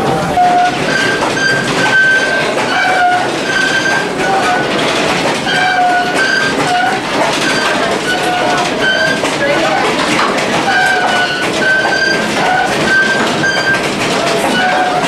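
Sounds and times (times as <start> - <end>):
high metallic squeals: 0.0 - 15.0
train cars rumbling on track: 0.0 - 15.0.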